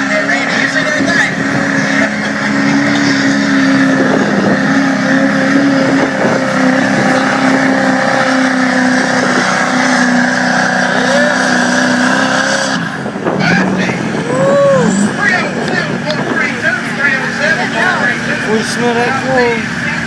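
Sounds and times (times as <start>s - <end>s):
diesel engine at high revs: 0.0s - 20.0s.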